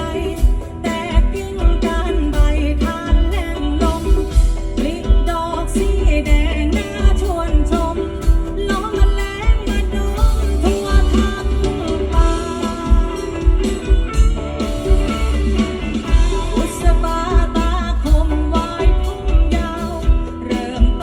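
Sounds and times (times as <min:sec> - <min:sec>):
song through car audio: 0:00.0 - 0:21.0.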